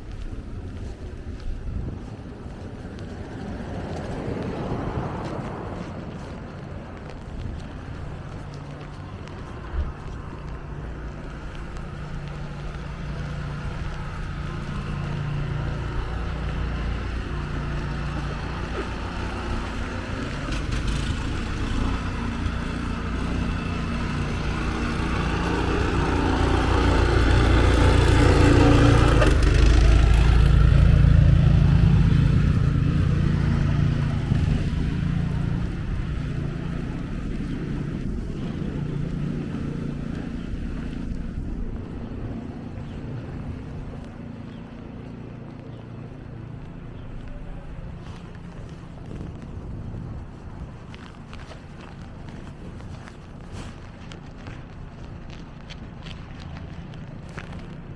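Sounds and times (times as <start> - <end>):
vehicle engine passing by: 0.0 - 57.9.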